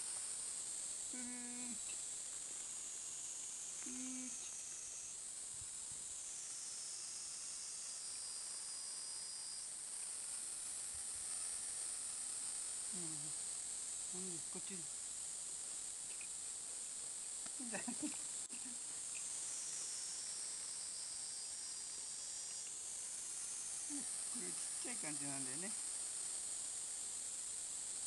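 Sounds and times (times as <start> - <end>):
cicadas chorus: 0.0 - 28.0.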